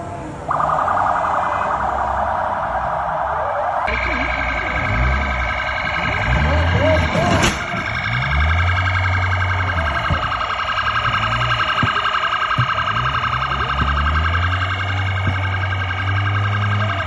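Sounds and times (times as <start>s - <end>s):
police siren pulsing: 0.0s - 17.0s
low rumble: 0.5s - 17.0s.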